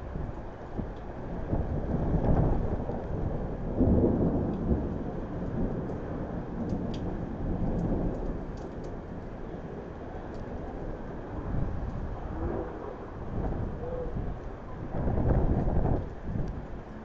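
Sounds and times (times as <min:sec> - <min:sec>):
rolling thunder: 0:00.0 - 0:16.9.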